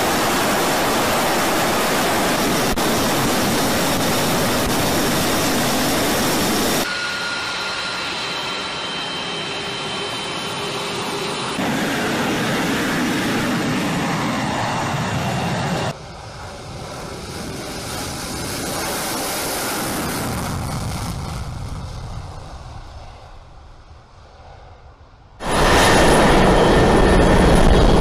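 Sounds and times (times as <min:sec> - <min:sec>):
jet engines on takeoff roll: 0:00.0 - 0:28.0
loud steady jet noise: 0:00.0 - 0:28.0.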